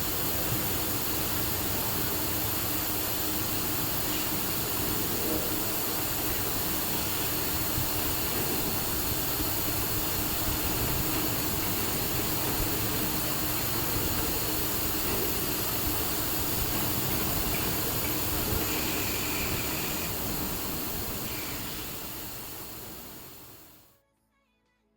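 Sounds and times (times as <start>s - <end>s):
machine whir and hiss: 0.0s - 23.9s.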